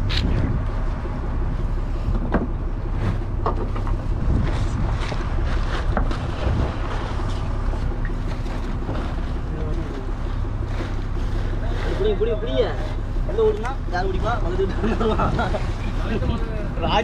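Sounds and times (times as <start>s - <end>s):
boat engine humming: 0.0s - 17.0s
wind buffeting microphone: 0.0s - 17.0s.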